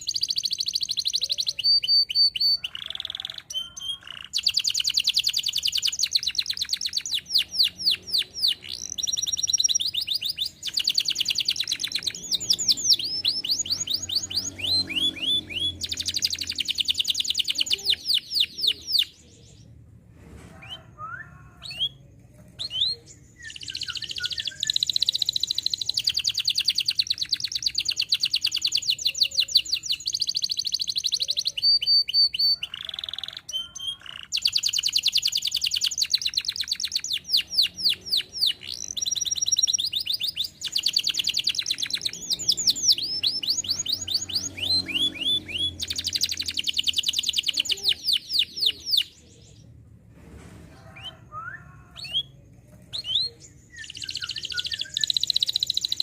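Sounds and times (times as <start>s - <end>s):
canary singing high trills: 0.0s - 19.2s, 22.6s - 49.6s, 53.0s - 56.0s.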